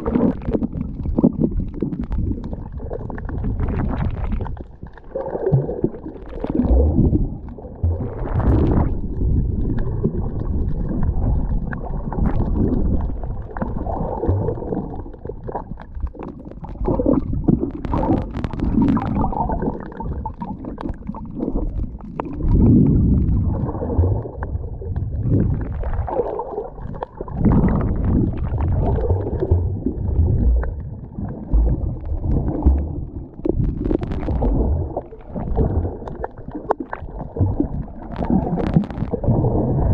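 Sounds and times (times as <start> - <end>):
underwater rumbling and gurgling: 0.0 - 39.9.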